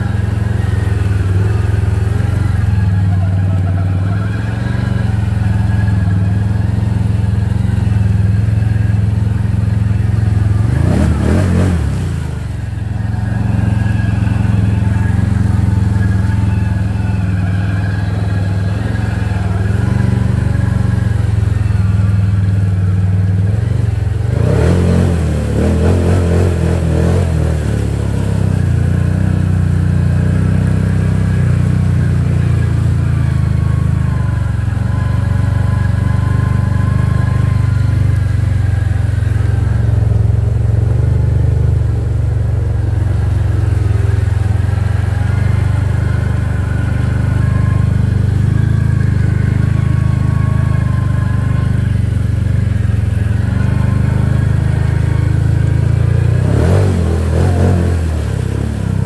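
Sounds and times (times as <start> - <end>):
atv engine running under load: 0.0 - 59.0
water and mud splashing: 0.0 - 59.0.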